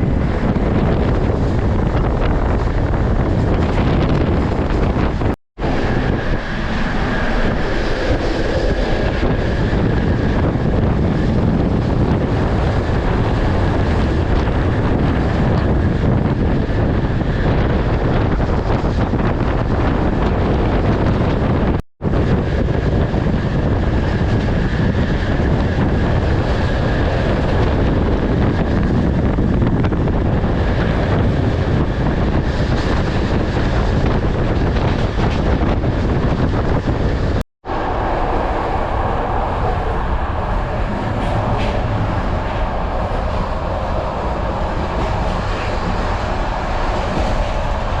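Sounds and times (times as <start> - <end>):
moving passenger train: 0.0 - 48.0
wind buffeting microphone: 0.0 - 48.0.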